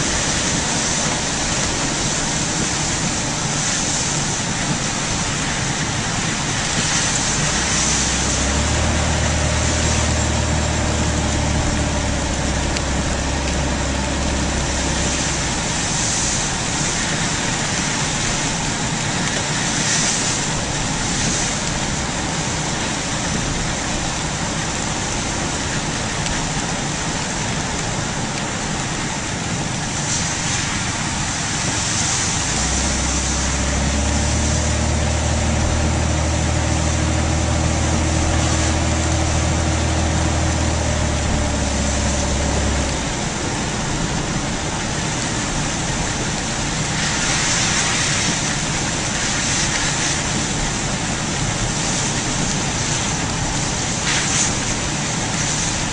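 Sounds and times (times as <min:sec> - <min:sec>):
low engine hum: 0:00.0 - 0:55.9
tyres hissing on wet road: 0:00.0 - 0:55.9.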